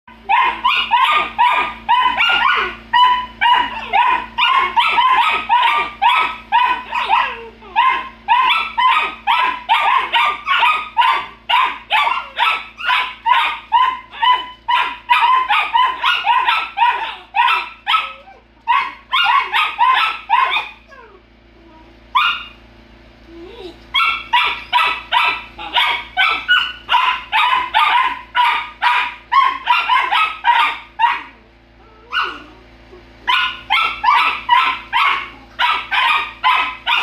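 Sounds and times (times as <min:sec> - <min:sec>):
puppies barking and yapping: 0:00.1 - 0:22.7, 0:23.3 - 0:37.0.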